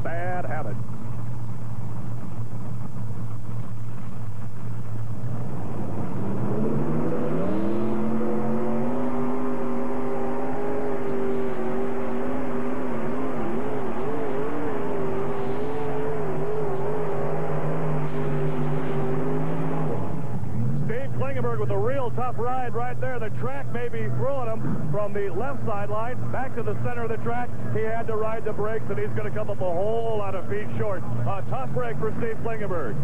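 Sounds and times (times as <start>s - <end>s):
pulling tractor engines revving: 0.0s - 33.0s.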